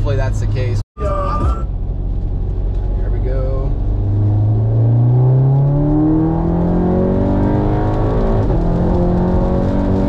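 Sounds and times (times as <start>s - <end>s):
car engine accelerating hard: 1.7s - 10.0s.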